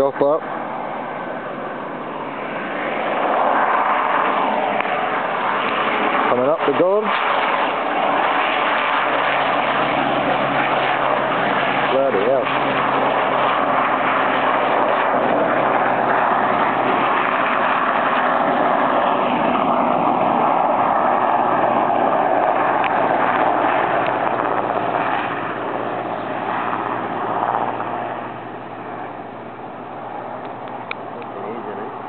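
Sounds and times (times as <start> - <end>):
helicopter rotor and engine: 0.0 - 32.0.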